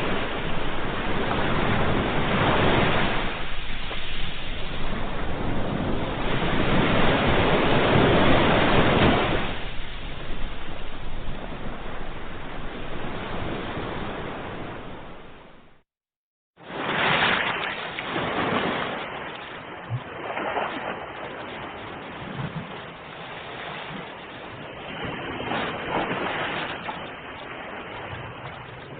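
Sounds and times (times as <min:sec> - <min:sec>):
ocean waves breaking: 0:00.0 - 0:15.8, 0:16.6 - 0:28.9.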